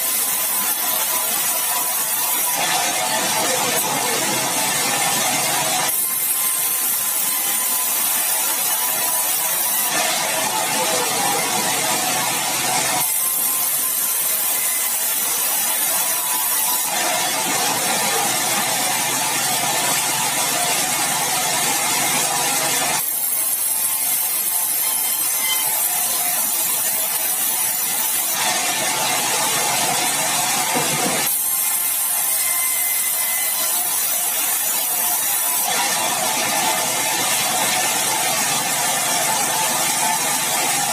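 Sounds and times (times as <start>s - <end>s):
sawmill saw cutting timber: 0.0s - 40.9s.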